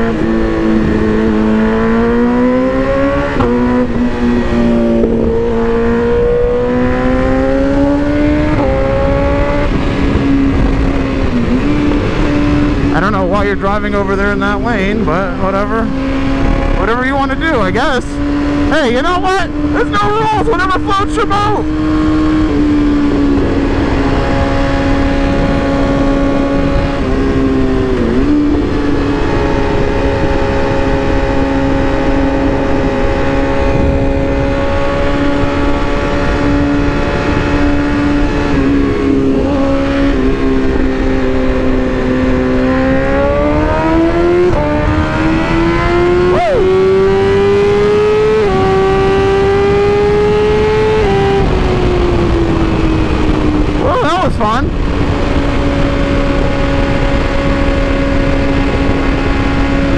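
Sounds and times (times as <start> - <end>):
rushing wind: 0.0 - 59.9
motorcycle engine running: 3.2 - 59.9.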